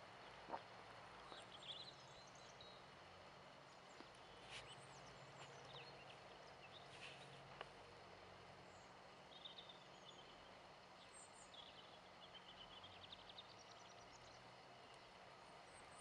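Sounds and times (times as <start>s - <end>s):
faint outdoor hiss: 0.0s - 16.0s
small birds chirping: 0.0s - 16.0s.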